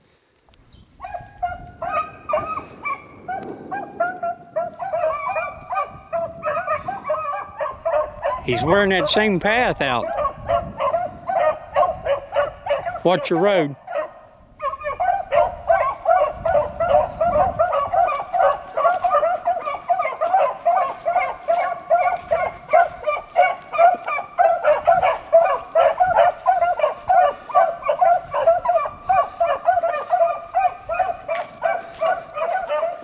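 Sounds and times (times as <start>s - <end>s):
hounds baying in chorus: 1.0s - 33.0s.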